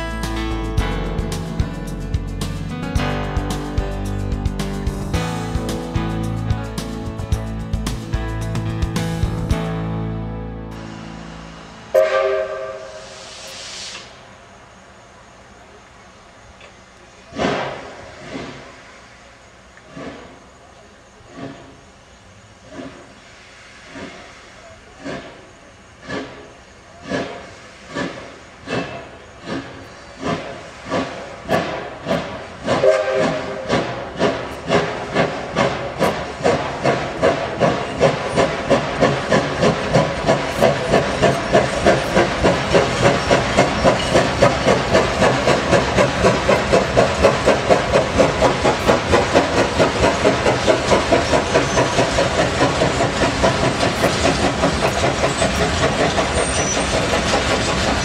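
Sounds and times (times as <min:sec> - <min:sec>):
steam locomotive exhaust chuffs: 0:00.0 - 0:09.8, 0:10.7 - 0:15.8, 0:16.6 - 0:58.0
steam hiss: 0:10.8 - 0:58.0.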